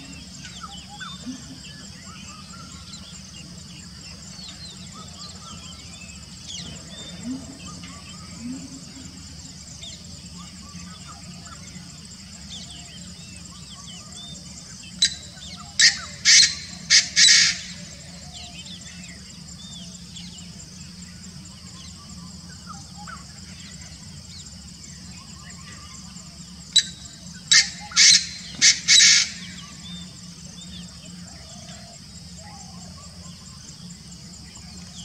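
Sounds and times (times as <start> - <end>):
francolin calling: 0.0 - 35.0.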